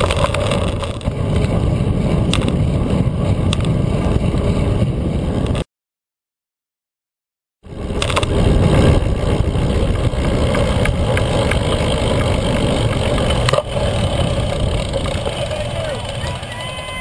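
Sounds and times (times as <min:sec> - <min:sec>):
bike tyres rumbling on concrete: 0:00.0 - 0:05.6, 0:07.6 - 0:17.0
wind buffeting microphone: 0:00.0 - 0:05.6, 0:07.6 - 0:17.0.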